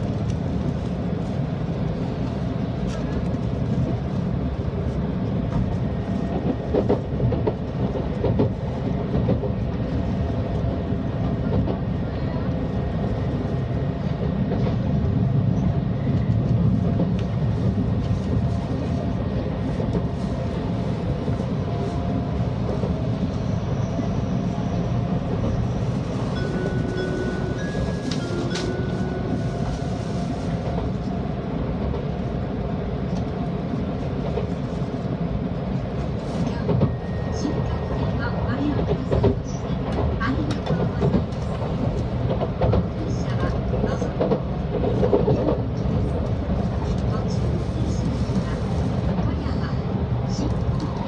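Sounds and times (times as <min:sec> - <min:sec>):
train cabin rumble: 0:00.0 - 0:51.0.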